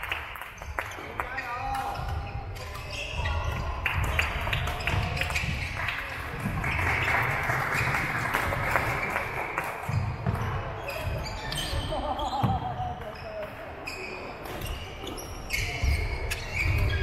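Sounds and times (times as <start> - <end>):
sports hall hum: 0.0 - 17.0.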